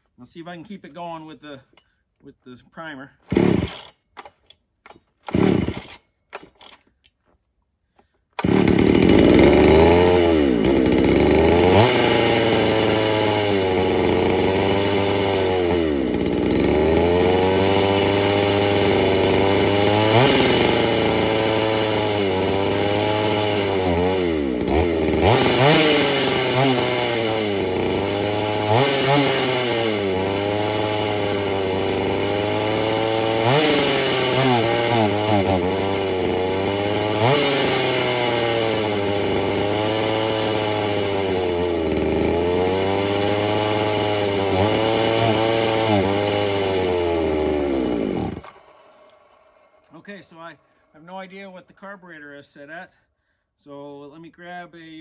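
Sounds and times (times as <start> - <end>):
chainsaw engine starting and revving: 3.2 - 7.0, 7.9 - 51.1.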